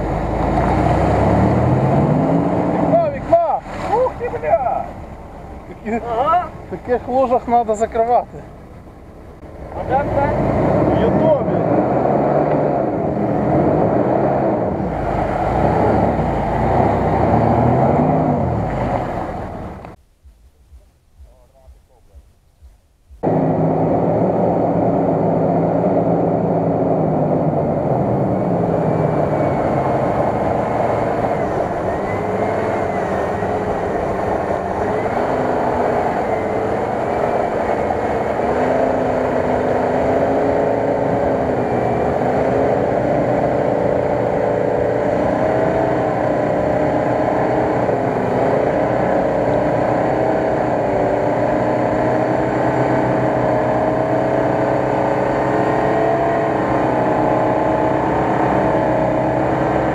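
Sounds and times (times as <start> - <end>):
engine revving in mud: 0.0 - 8.2, 9.4 - 20.0, 23.2 - 59.9.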